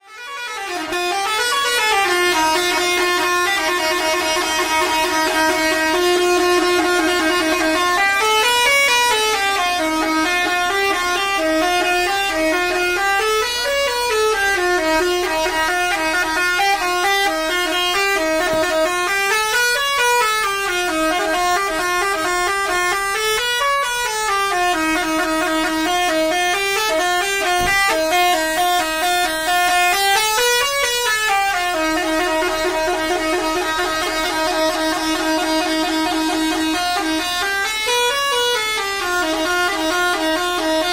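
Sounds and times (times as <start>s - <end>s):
truck musical horn tune: 0.0s - 40.9s.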